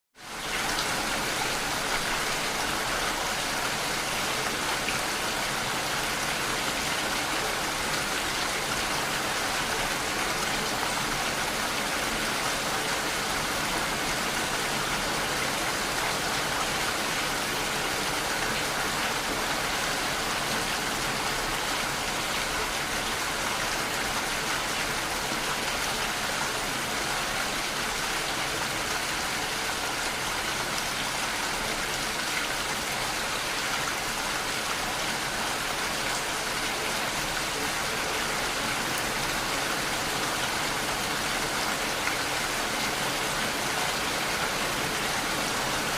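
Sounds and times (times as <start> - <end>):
falling rain: 0.2 - 45.9.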